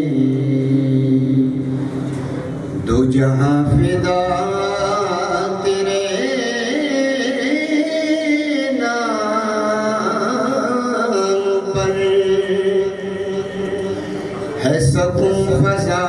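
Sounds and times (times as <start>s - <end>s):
man singing devotional song: 0.0s - 1.6s, 2.8s - 14.0s, 14.6s - 16.0s.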